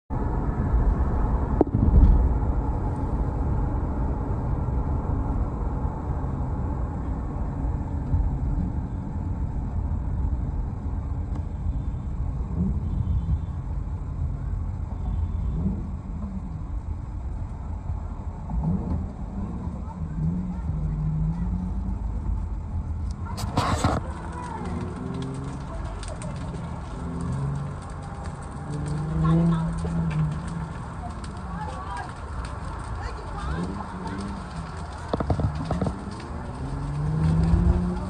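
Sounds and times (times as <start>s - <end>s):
car cabin road rumble: 0.1s - 38.0s.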